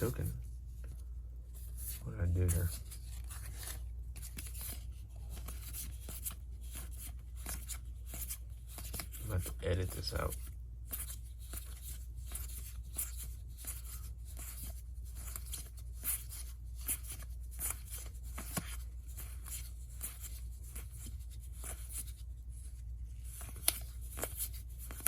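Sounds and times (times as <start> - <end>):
cards clicking and rustling: 1.8 - 22.2, 23.2 - 25.0.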